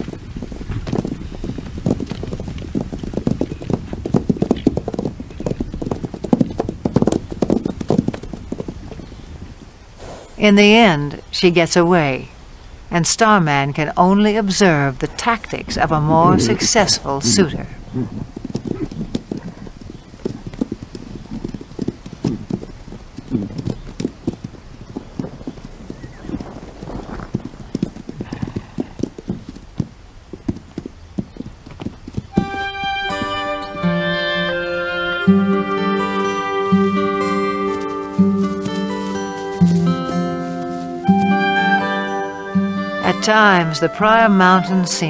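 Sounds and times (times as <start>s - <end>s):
horse hooves pounding: 0.0s - 10.4s, 15.0s - 45.0s.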